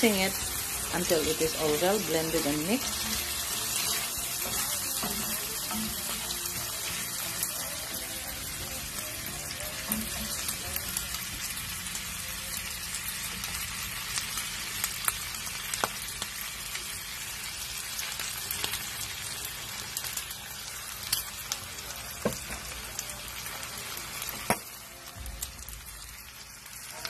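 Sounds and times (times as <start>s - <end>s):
food sizzling in a hot pan: 0.0s - 27.0s.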